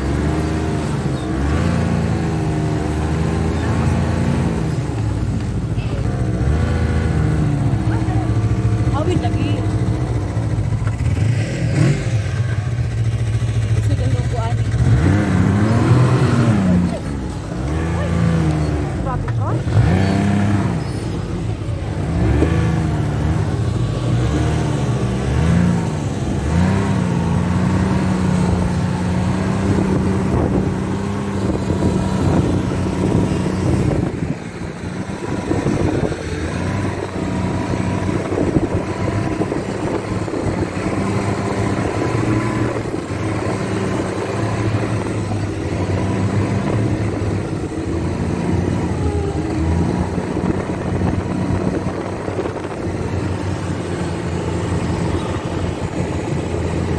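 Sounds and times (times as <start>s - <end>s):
snowmobile engine running: 0.0s - 56.9s.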